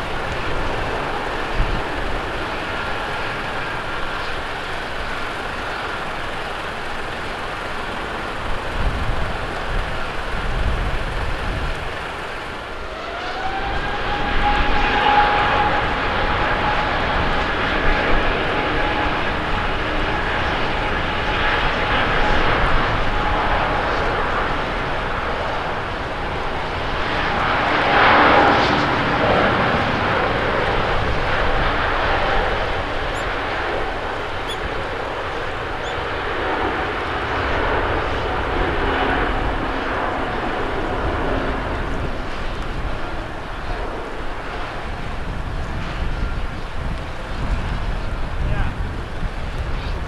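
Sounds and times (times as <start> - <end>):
jet engine rumble and hiss: 0.0 - 50.0
thin jet whine: 0.0 - 50.0.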